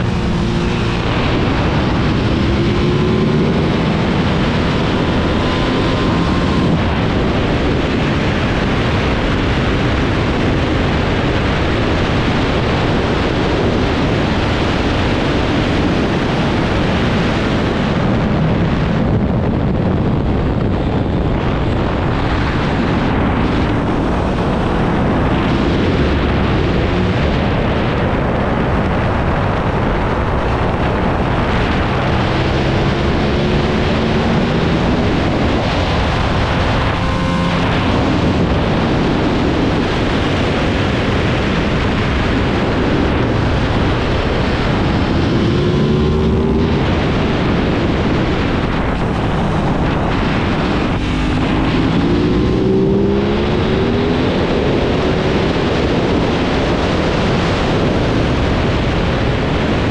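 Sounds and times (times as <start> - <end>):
motorcycle engine running: 0.0 - 55.2
wind rushing over microphone: 0.0 - 59.9.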